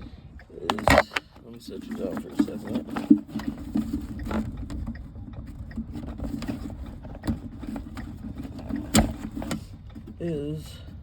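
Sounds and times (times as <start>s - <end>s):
hands clicking and knocking on truck: 0.6s - 10.2s.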